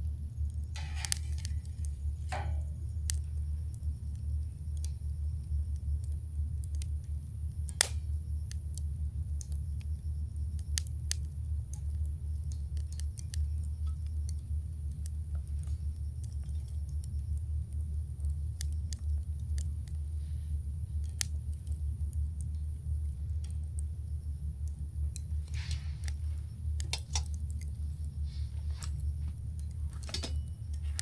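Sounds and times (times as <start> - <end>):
campfire crackles and pops: 0.0 - 31.0
fire low rumble: 0.0 - 31.0.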